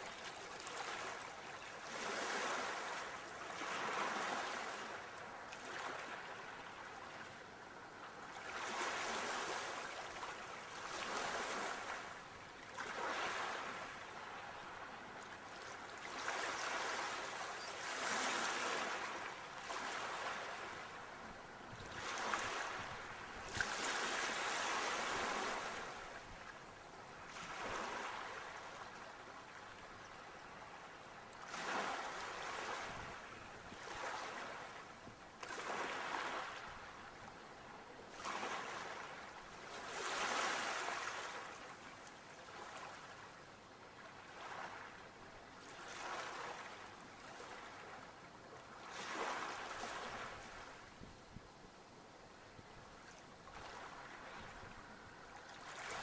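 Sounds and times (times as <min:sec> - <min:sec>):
ocean waves breaking on shore: 0:00.0 - 0:51.2, 0:52.9 - 0:56.0.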